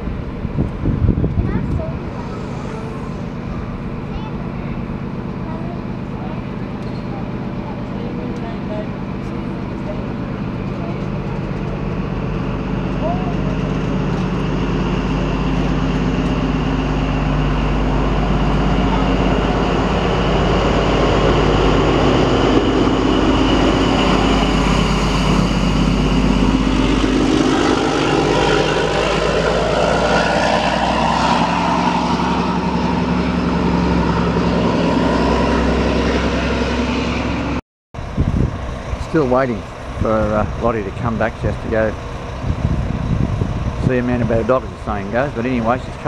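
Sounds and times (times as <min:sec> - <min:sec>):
diesel train engine drone: 0:00.0 - 0:46.0.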